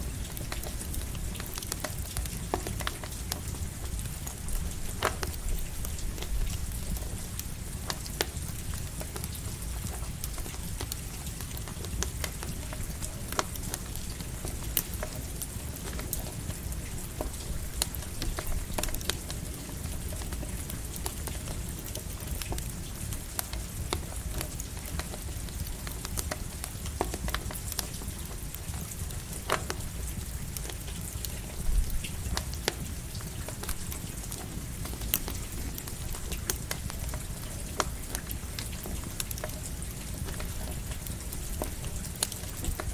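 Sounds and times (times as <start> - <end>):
campfire crackling: 0.0 - 42.9
rain falling: 0.0 - 42.9.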